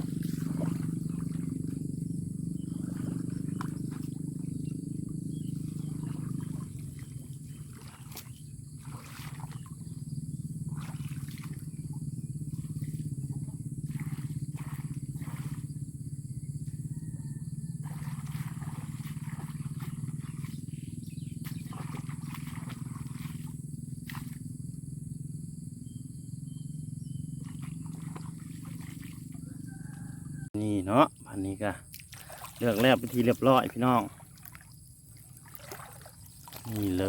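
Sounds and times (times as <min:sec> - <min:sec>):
knocks and splashes: 0:00.0 - 0:16.0, 0:17.7 - 0:24.6, 0:27.3 - 0:30.0, 0:31.8 - 0:37.0.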